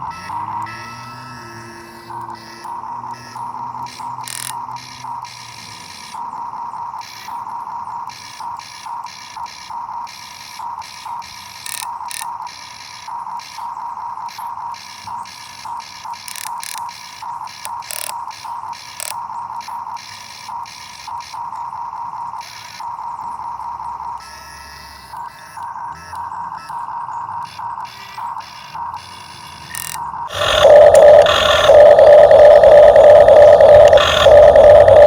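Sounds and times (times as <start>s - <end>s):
gear clicks: 0.0s - 24.4s, 25.1s - 35.0s
electric gear motors whining: 0.0s - 35.0s.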